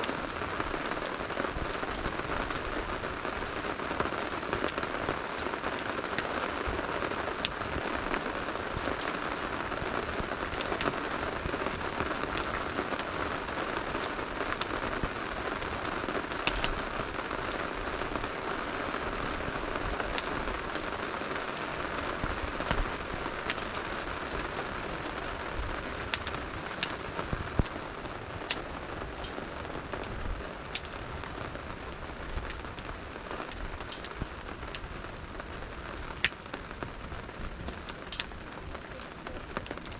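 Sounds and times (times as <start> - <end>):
campfire crackling: 0.0 - 39.9
steady rain falling: 0.0 - 39.9.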